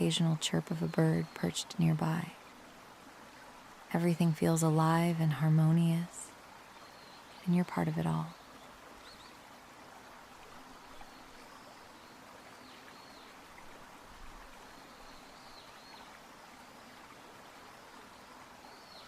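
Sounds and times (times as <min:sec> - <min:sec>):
shallow river gurgling: 0:00.0 - 0:19.0.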